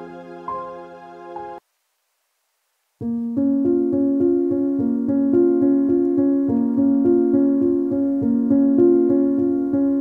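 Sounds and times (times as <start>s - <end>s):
piano music: 0.0s - 1.6s, 3.0s - 10.0s.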